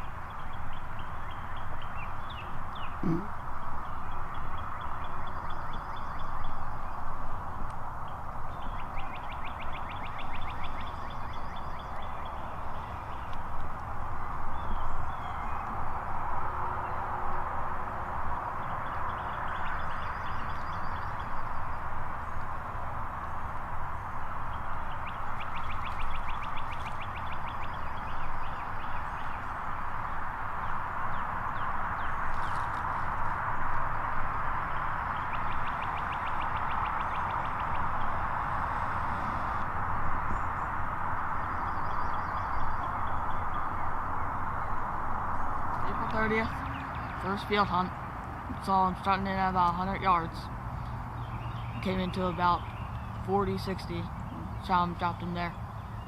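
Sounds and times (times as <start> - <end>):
small birds trilling: 0.0 - 56.0
steady background hiss: 0.0 - 56.0.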